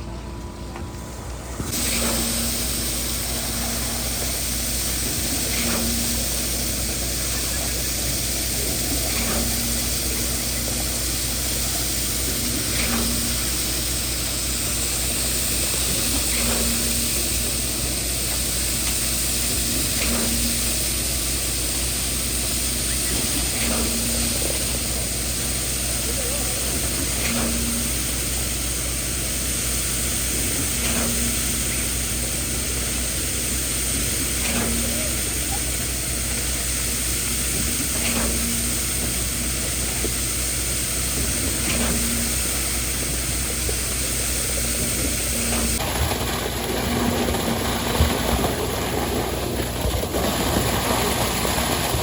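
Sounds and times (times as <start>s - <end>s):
concrete pump engine drone: 0.0s - 52.0s
pump clunk: 0.0s - 52.0s.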